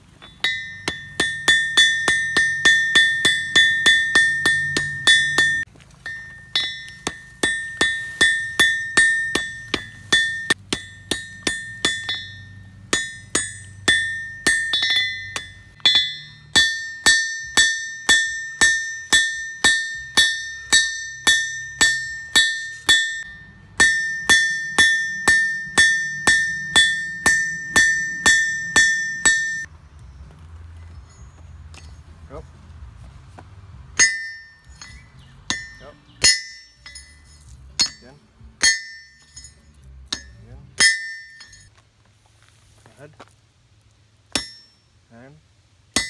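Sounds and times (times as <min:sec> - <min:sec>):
hammer ringing on anvil: 0:00.1 - 0:29.7, 0:34.0 - 0:41.7, 0:44.3 - 0:44.8.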